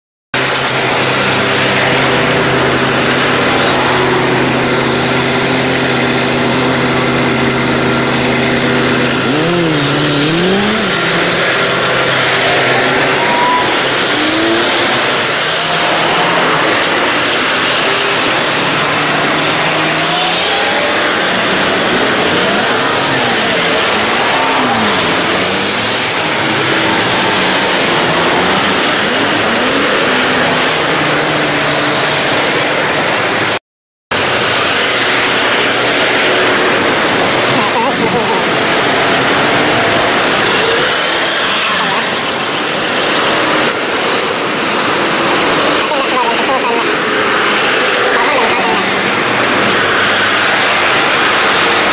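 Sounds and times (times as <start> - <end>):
rush of tyres and motors: 0.3 - 51.9
engines idling: 0.4 - 51.9
engines pulling away and passing: 0.4 - 51.9.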